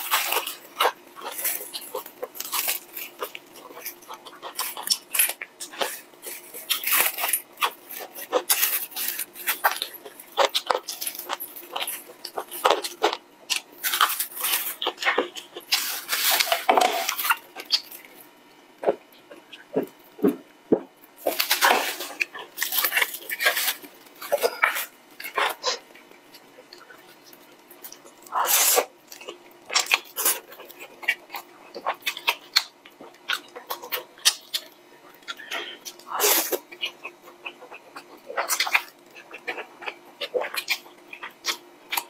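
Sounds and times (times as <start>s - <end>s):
crunching and chewing fried chicken: 0.0s - 42.0s.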